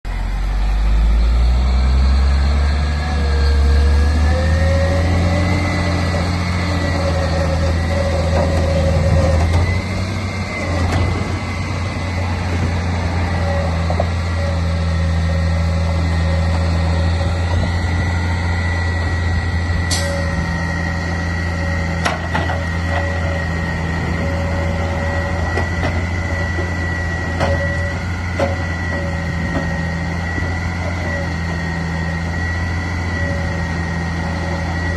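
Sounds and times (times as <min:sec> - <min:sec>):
truck engine humming: 0:00.0 - 0:34.9
high steady whine: 0:00.1 - 0:34.9.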